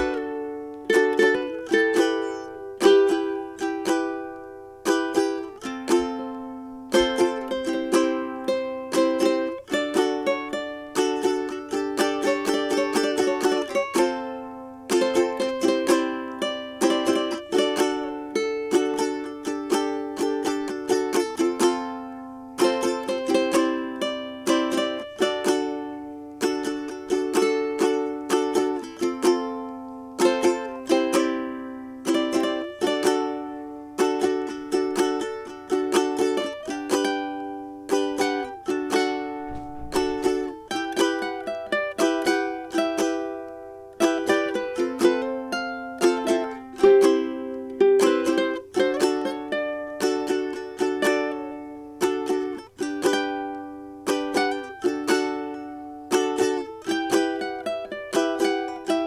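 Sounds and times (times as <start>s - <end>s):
ukulele plucking: 0.0s - 59.0s.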